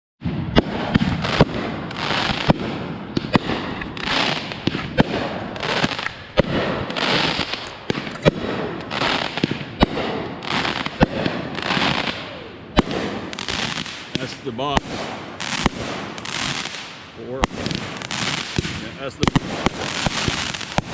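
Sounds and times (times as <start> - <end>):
fireworks bangs: 0.2 - 20.9
fireworks crackling and hissing: 0.2 - 20.9.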